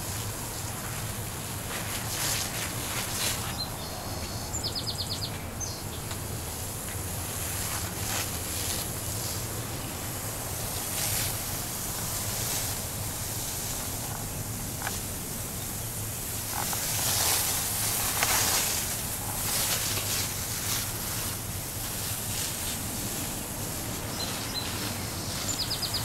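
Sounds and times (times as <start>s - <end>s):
low hum and hiss: 0.0s - 26.0s
wind gusts: 0.0s - 26.0s.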